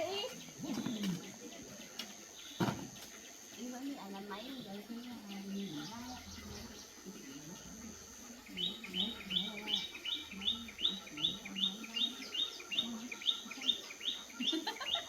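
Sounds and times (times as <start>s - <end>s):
small bird chirping: 2.3s - 15.0s.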